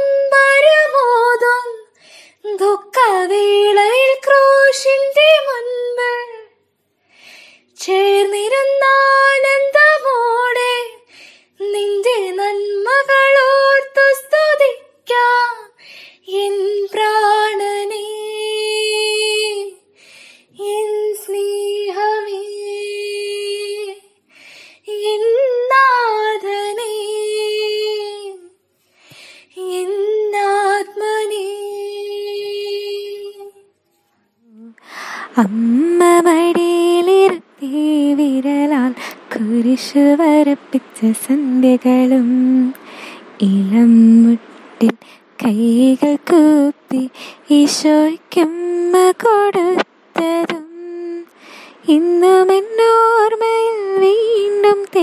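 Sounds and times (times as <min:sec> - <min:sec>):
woman singing unaccompanied: 0:00.0 - 0:06.6, 0:07.8 - 0:19.9, 0:20.5 - 0:24.2, 0:24.8 - 0:28.6, 0:29.4 - 0:33.7, 0:34.4 - 0:55.0.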